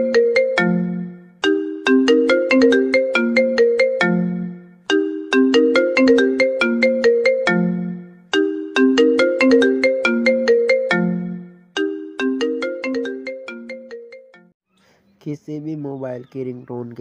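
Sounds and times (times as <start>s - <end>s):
phone ringtone melody: 0.0s - 14.6s.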